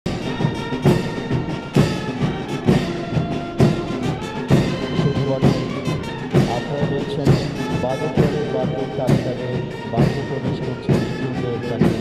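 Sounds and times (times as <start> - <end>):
heavy drum beat: 0.1 - 12.0
orchestral music: 0.1 - 12.0.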